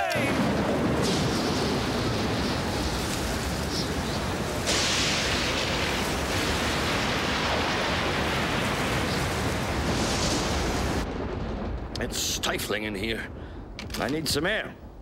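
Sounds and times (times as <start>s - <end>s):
wind and rain hiss: 0.0s - 15.0s.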